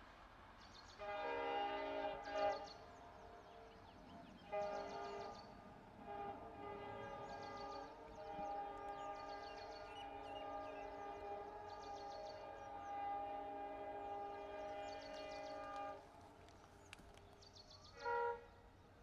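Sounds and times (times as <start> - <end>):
locomotive horn blast: 1.0 - 16.1, 17.9 - 18.6.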